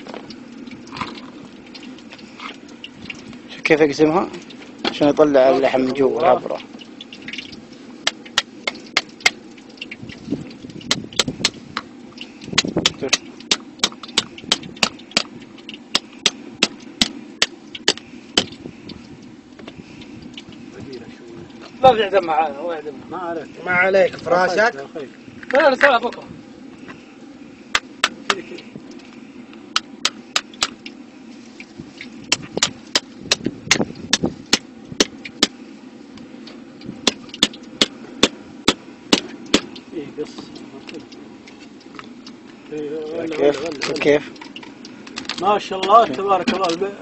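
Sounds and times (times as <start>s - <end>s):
low hum: 0.0s - 47.0s.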